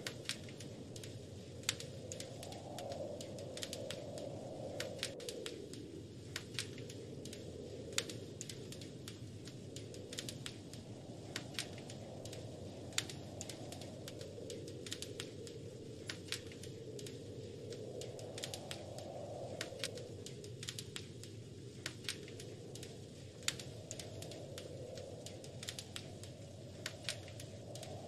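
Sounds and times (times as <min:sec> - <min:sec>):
low rush of wind: 0:00.0 - 0:28.0
wood fire crackling and popping: 0:00.0 - 0:28.0.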